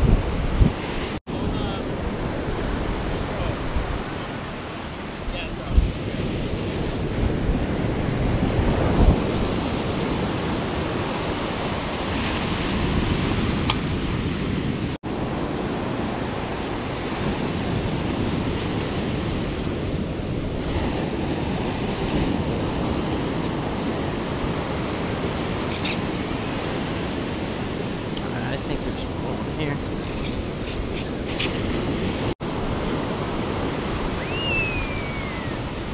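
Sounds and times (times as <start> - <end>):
ocean surf breaking: 0.0 - 35.9
wind buffeting microphone: 0.0 - 35.9.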